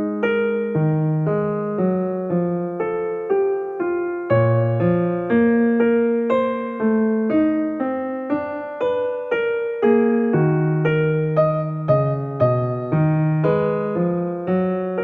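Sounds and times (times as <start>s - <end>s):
soft electric piano music: 0.0s - 15.0s.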